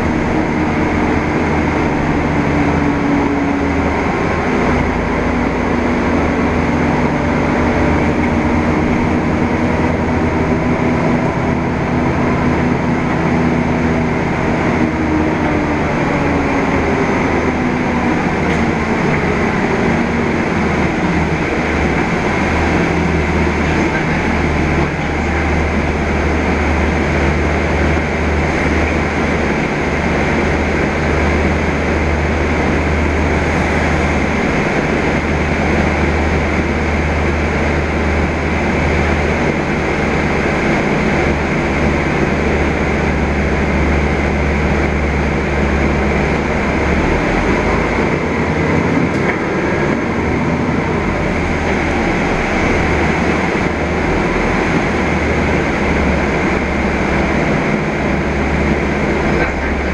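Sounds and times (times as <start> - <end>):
bus engine hum: 0.0 - 59.9
road and body rumble: 0.0 - 59.9.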